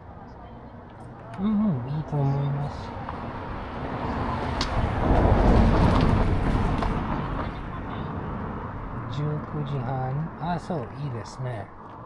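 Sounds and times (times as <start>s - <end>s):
motor vehicle passing by: 0.2s - 11.0s.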